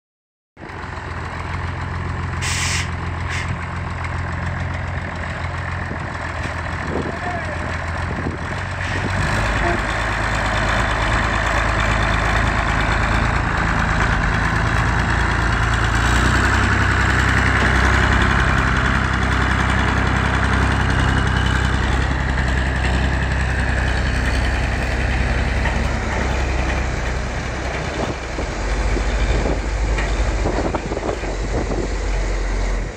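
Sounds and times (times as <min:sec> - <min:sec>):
tractor diesel engine under load: 0:00.6 - 0:32.9.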